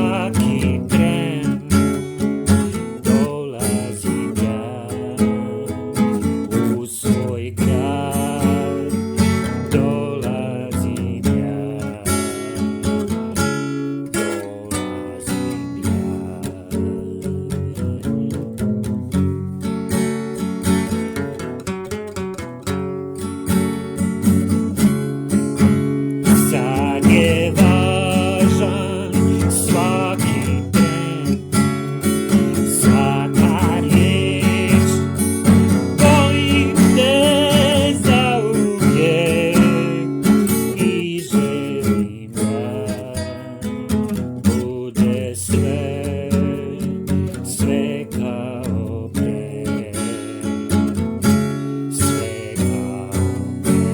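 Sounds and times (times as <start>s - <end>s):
strummed acoustic guitar: 0.0s - 53.9s.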